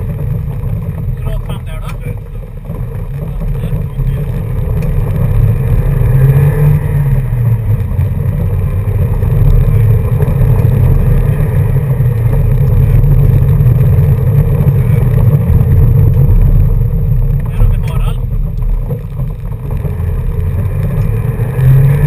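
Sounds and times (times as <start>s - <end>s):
car engine drone from inside: 0.0s - 22.0s
tyres on gravel road: 0.0s - 22.0s.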